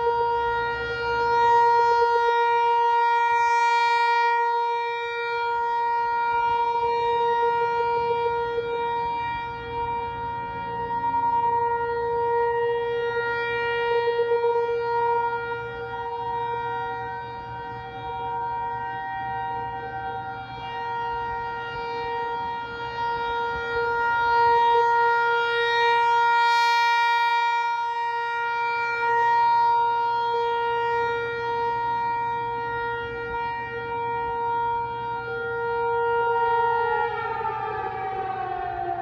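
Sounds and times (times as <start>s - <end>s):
two-tone warning siren: 0.0s - 39.0s.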